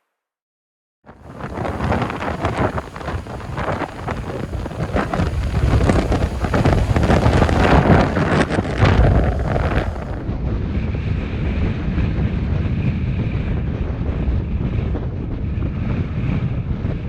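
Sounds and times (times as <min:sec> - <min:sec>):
strong wind buffeting microphone: 0:01.1 - 0:17.0.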